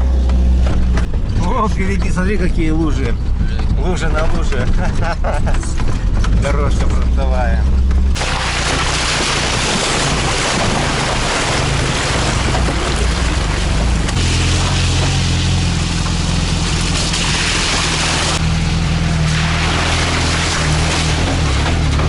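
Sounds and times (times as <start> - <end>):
vehicle engine under load: 0.0 - 22.0
tyres rushing through puddles: 1.1 - 22.0.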